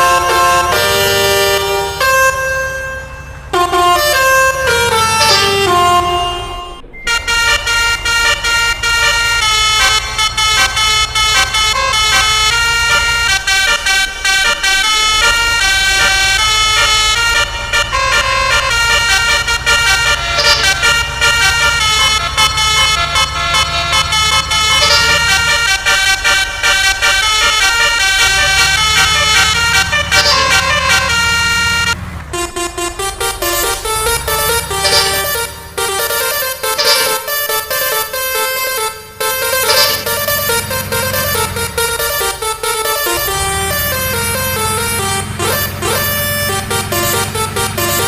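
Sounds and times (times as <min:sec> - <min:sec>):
horn playing fast melody: 0:00.0 - 0:48.0.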